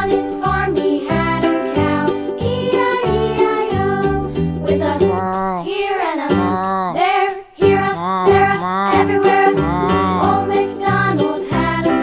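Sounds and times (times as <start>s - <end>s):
upbeat children's music: 0.0s - 12.0s.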